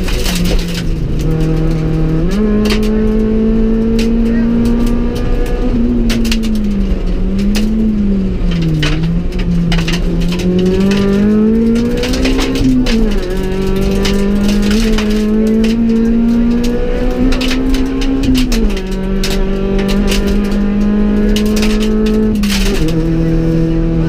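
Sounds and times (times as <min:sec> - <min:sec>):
sharp clicks and knocks: 0:00.0 - 0:23.2
car engine at high revs: 0:00.0 - 0:24.0.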